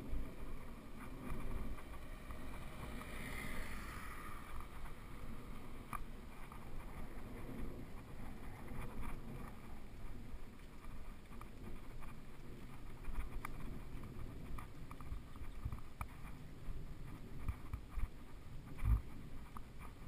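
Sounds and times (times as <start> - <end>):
bike rattles and clicks: 0.0 - 20.0
bike tyres rumbling on gravel: 0.0 - 20.0.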